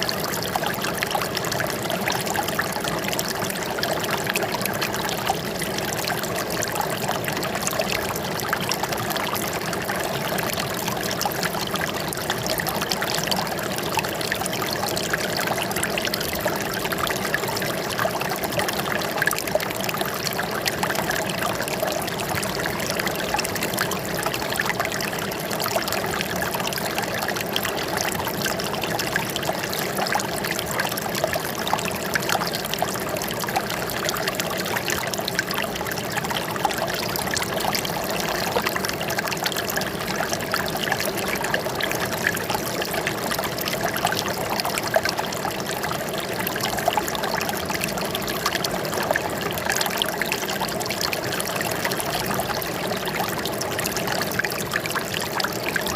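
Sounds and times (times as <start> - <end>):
running water trickling and splashing: 0.0 - 55.9.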